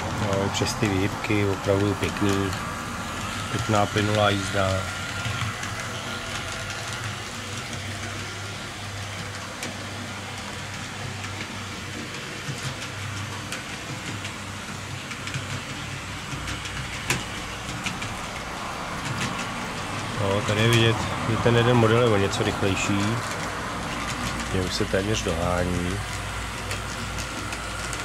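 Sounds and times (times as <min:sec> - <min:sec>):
model railcar motors humming: 0:00.0 - 0:28.0
wheels rolling on rails: 0:00.0 - 0:28.0.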